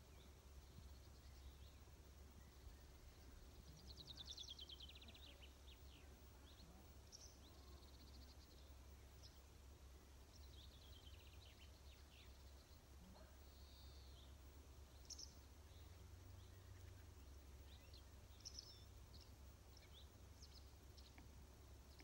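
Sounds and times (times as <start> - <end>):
low outdoor rumble: 0.0 - 22.0
songbird singing: 0.0 - 22.0.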